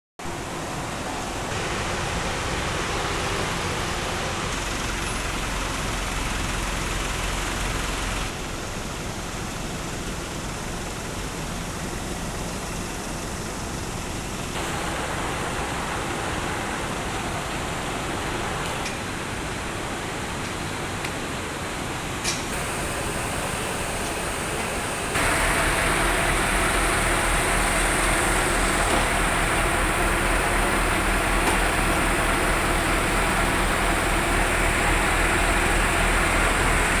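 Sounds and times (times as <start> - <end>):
truck engine and road noise: 0.2 - 37.0.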